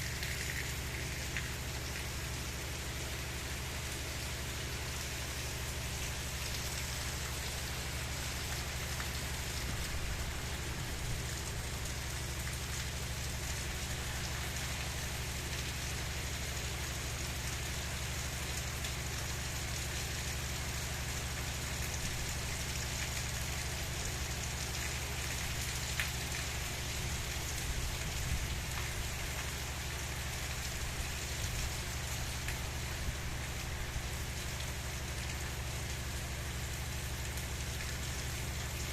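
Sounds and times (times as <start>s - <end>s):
gentle rain falling: 0.0s - 38.9s
individual raindrops: 0.0s - 38.9s.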